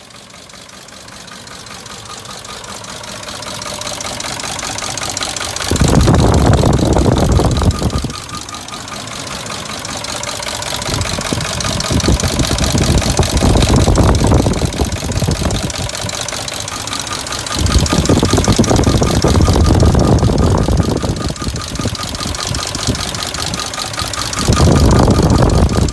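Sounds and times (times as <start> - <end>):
car engine rattling and ticking: 0.0 - 25.9.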